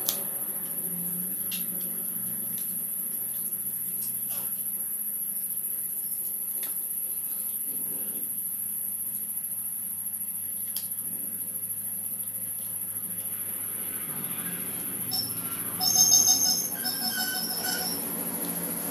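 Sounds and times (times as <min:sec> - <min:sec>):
crickets chirring: 0:00.2 - 0:18.9.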